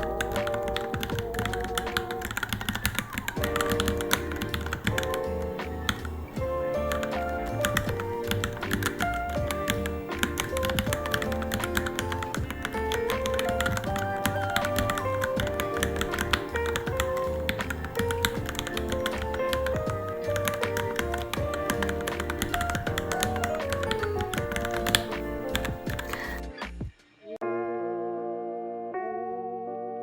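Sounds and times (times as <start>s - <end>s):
fast mechanical keyboard typing: 0.0s - 6.2s, 6.8s - 26.4s
background music with bass beat: 0.0s - 27.1s.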